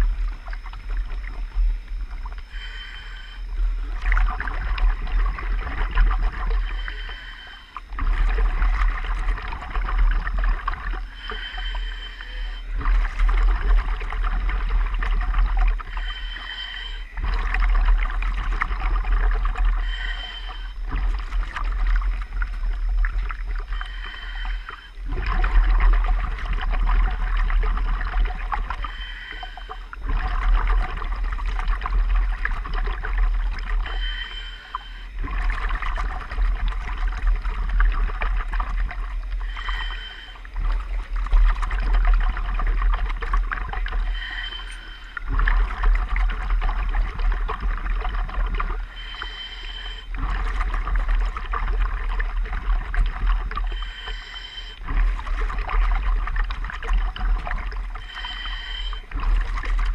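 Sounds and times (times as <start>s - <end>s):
bubbling: 0.0s - 59.9s
diver breathing through regulator: 0.0s - 59.9s
water sloshing: 0.0s - 59.9s.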